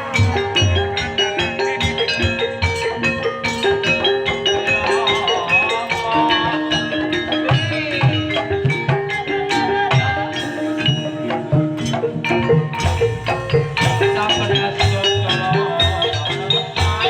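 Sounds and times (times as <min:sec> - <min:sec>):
mallet-struck pitched tones: 0:00.0 - 0:17.0.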